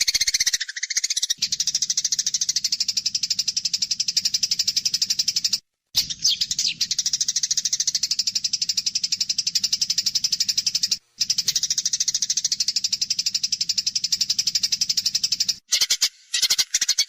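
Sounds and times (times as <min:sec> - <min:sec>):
sparrows chattering: 0:00.0 - 0:17.0.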